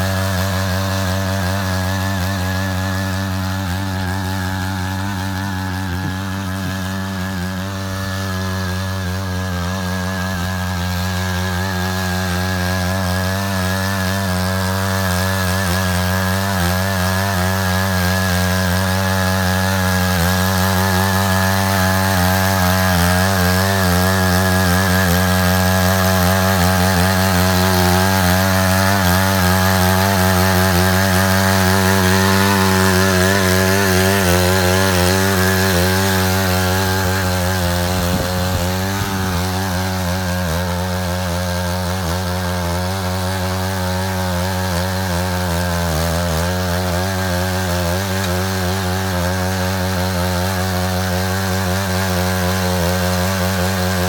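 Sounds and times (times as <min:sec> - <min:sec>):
power tiller engine running: 0:00.0 - 0:54.0.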